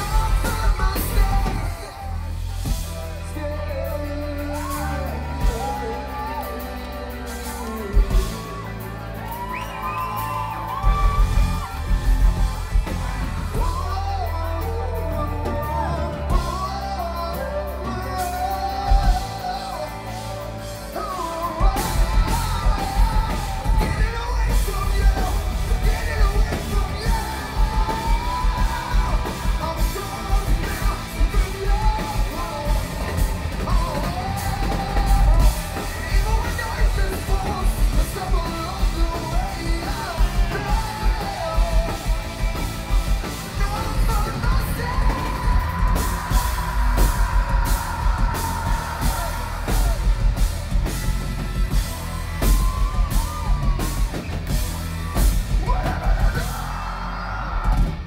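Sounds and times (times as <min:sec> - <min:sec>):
rock band playing: 0:00.0 - 0:58.0
singer singing and yelling: 0:00.0 - 0:58.0.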